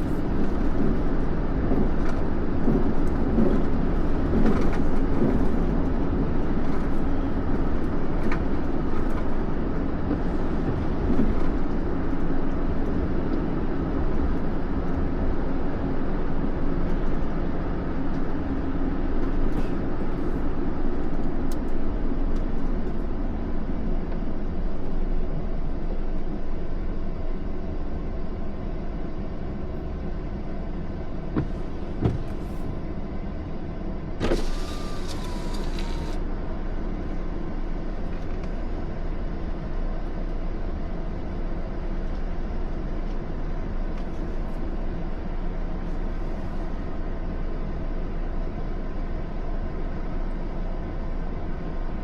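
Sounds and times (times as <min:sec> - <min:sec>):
car engine rumble inside cabin: 0:00.0 - 0:52.0.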